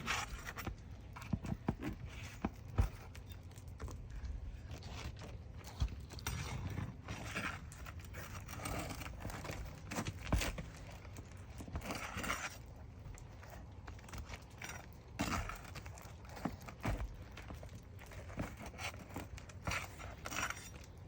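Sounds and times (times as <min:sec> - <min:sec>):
pry bar scraping shingles: 0:00.0 - 0:21.0.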